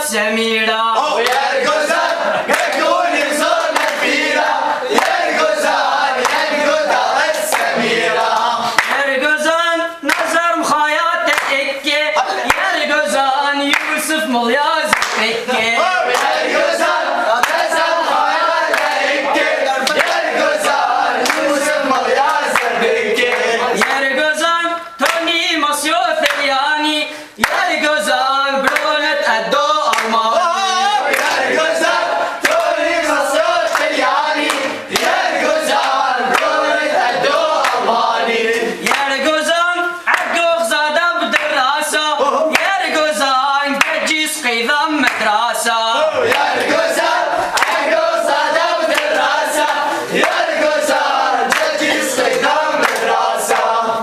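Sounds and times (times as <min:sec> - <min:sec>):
men singing and chanting: 0:00.0 - 0:54.0
single voice singing: 0:00.0 - 0:54.0
hand claps: 0:01.2 - 0:09.2, 0:10.0 - 0:10.5, 0:11.3 - 0:11.6, 0:12.4 - 0:12.9, 0:13.7 - 0:14.2, 0:14.9 - 0:24.1, 0:25.0 - 0:28.0, 0:28.6 - 0:29.1, 0:29.8 - 0:30.3, 0:31.0 - 0:45.4, 0:46.3 - 0:53.8.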